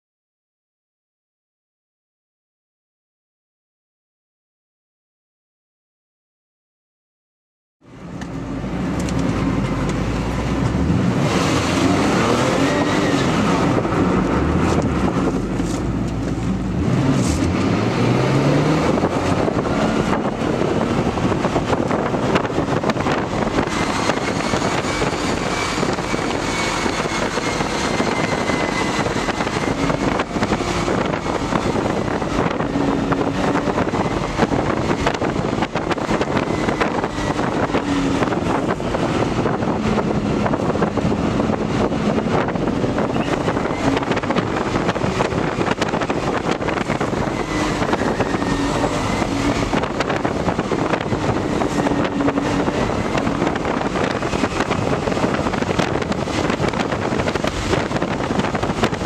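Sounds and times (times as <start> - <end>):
road and wind noise: 7.8 - 59.0
car engine revving: 8.1 - 59.0.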